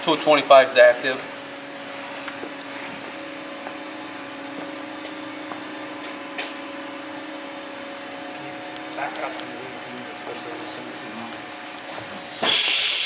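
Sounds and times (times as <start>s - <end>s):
machinery humming and whirring: 0.0s - 13.0s.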